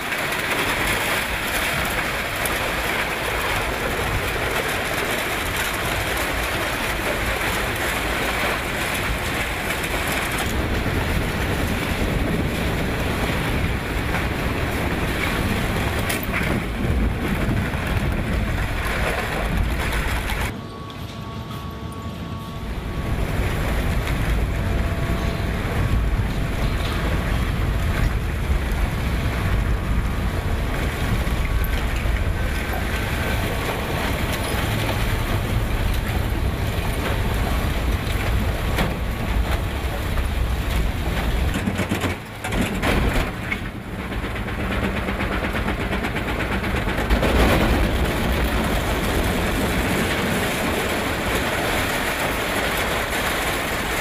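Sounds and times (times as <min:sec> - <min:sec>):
industrial shredder rumbling: 0:00.0 - 0:54.0.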